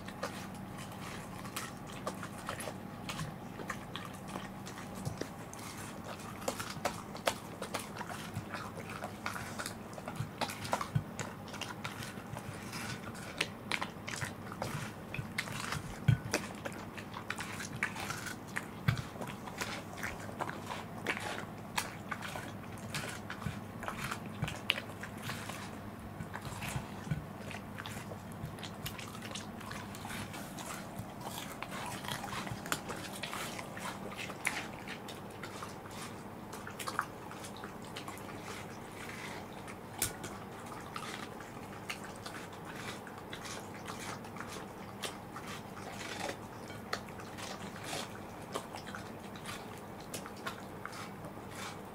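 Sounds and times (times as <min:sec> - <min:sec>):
dogs chewing watermelon: 0:00.0 - 0:51.9.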